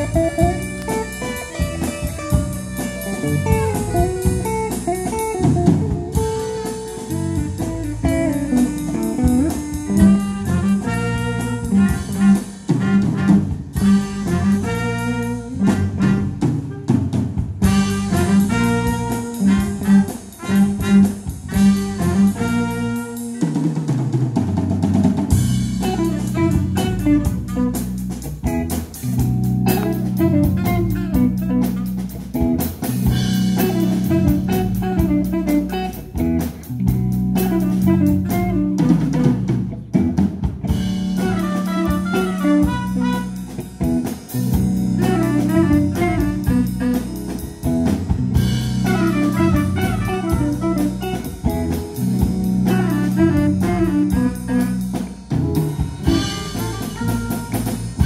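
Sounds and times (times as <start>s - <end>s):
big band playing swing: 0.0s - 58.0s.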